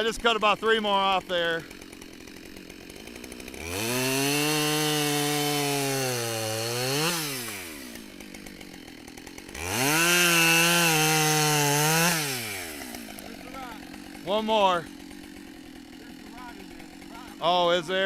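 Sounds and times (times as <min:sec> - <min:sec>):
chainsaw idling and cutting wood: 0:00.0 - 0:18.0.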